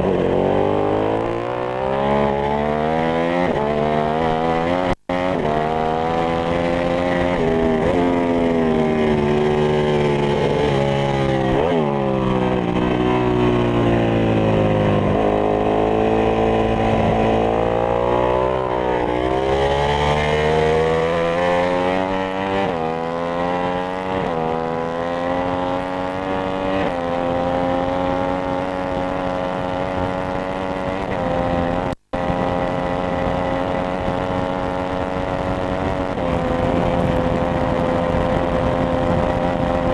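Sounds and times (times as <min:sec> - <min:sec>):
motorcycle engine revving with upshifts: 0:00.0 - 0:39.9.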